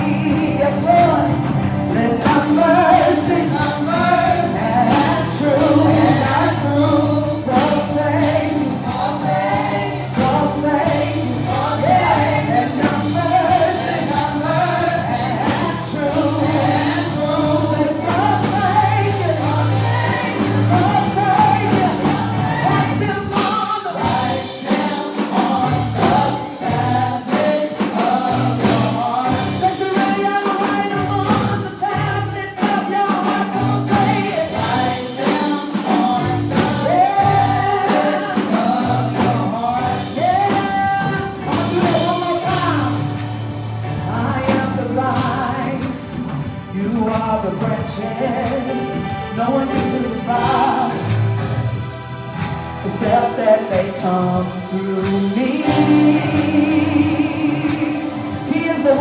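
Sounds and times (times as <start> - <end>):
band playing: 0.0 - 59.0
steady drum beat: 0.0 - 59.0
choir singing: 2.2 - 43.0, 47.8 - 59.0.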